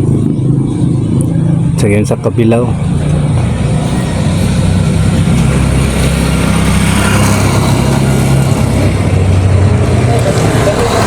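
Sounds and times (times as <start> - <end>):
heavy engine running steadily: 0.0 - 11.0.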